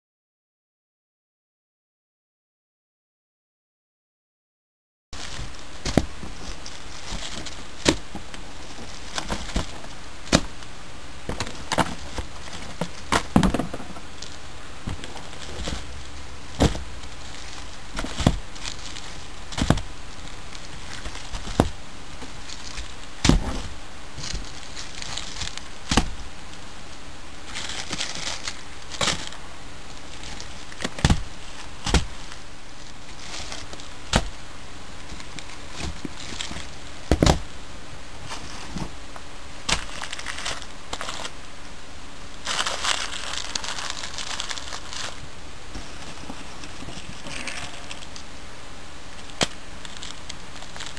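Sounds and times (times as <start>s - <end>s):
plastic wrapping crinkling: 5.2s - 37.6s, 38.2s - 41.5s, 42.3s - 48.4s, 49.1s - 50.9s.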